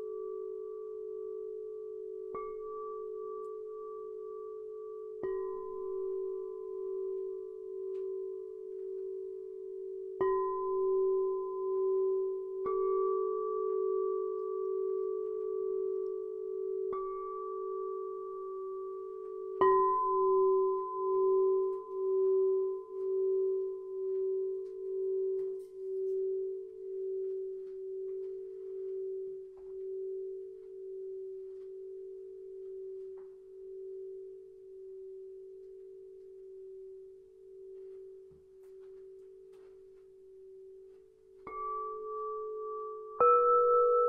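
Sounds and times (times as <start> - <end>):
singing bowl ringing: 0.0 - 39.6, 40.3 - 44.0.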